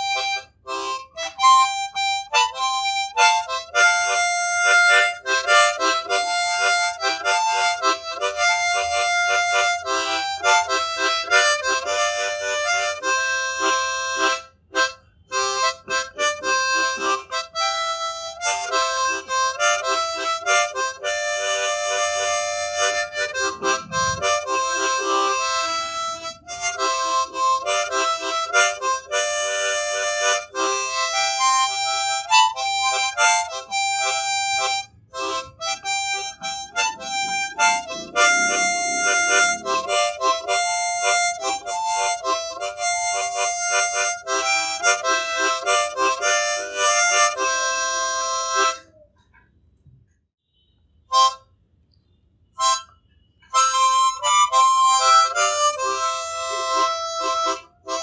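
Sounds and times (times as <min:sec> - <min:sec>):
harmonica playing a melody: 0:00.0 - 0:49.1, 0:51.1 - 0:51.5, 0:52.5 - 0:58.0.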